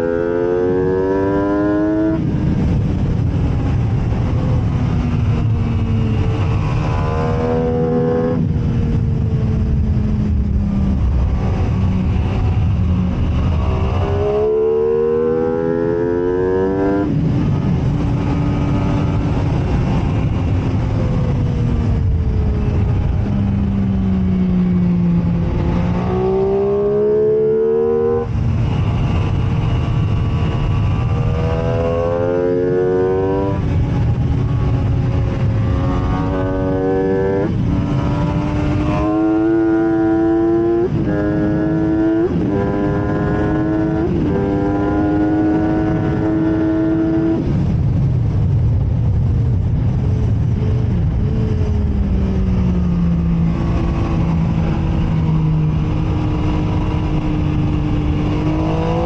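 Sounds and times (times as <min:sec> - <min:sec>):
constant rush of noise: 0:00.0 - 0:59.0
motorcycle engine revving and shifting: 0:00.0 - 0:59.0.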